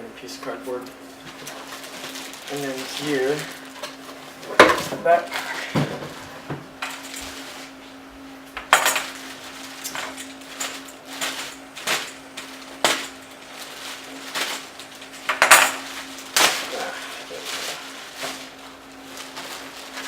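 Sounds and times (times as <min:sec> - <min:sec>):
packaging knocks and crinkles: 0:01.2 - 0:06.2, 0:08.6 - 0:20.0.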